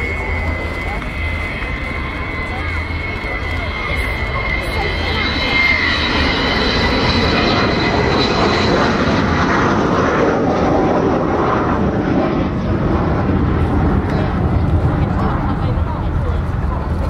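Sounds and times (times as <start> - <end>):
loud jet noise: 0.0 - 17.0.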